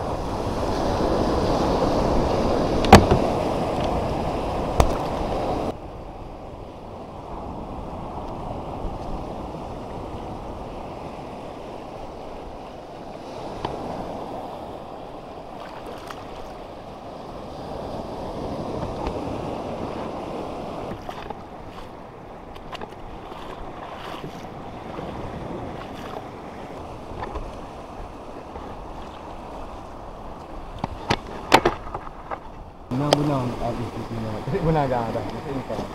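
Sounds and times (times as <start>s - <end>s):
small waves washing over reef: 0.0s - 35.9s
wind buffeting microphone: 0.0s - 35.9s.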